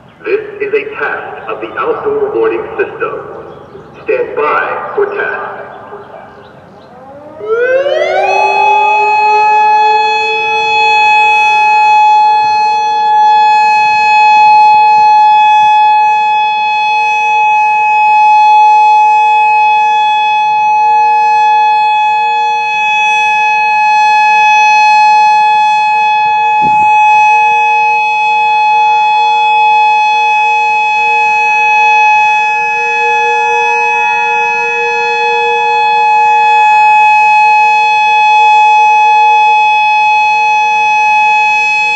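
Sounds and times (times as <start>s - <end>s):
warning siren steady tone: 0.0s - 41.9s.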